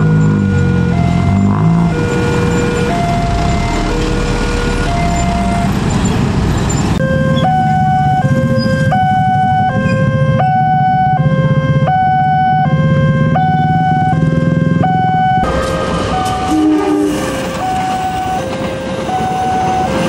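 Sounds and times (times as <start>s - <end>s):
motorbike and car engines: 0.0s - 20.0s
two-tone crossing alarm: 0.0s - 20.0s.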